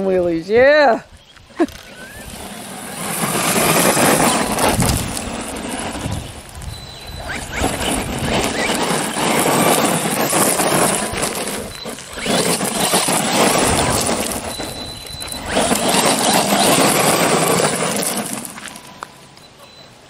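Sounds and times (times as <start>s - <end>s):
tyres crunching gravel: 1.3s - 19.6s
rc truck motor running: 1.6s - 19.8s.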